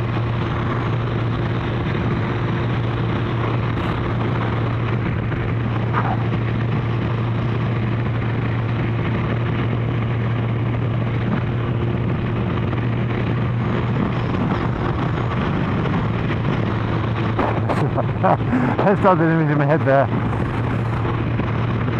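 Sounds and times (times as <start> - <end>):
motorcycle engine cruising: 0.0 - 21.9
wind and road noise: 0.0 - 21.9.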